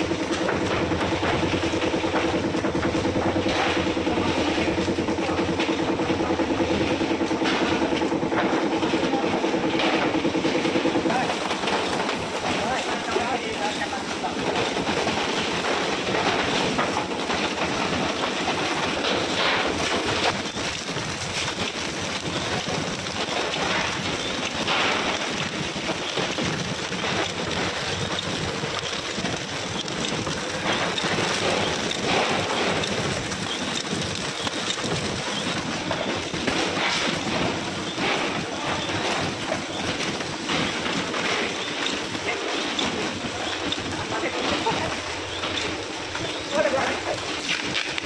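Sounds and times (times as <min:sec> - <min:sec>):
bakery machinery clattering: 0:00.0 - 0:48.0.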